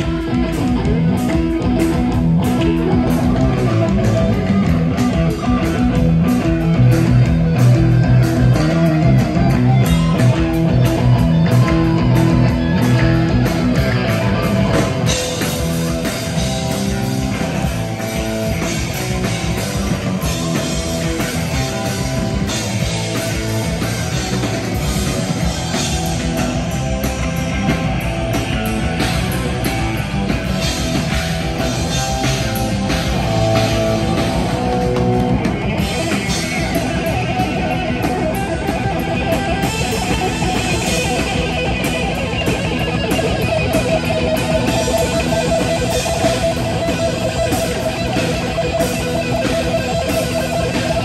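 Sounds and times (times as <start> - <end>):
bass guitar: 0.0 - 51.0
distorted electric guitars: 0.0 - 51.0
drum kit: 0.0 - 51.0.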